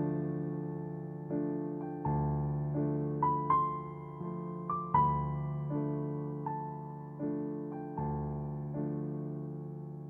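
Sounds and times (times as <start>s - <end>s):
soft slow piano music: 0.0s - 10.0s.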